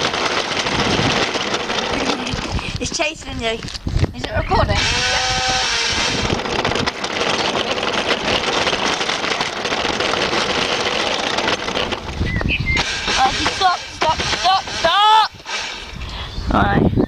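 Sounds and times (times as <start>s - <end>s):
toy car motor and wheels rumbling: 0.0s - 16.4s.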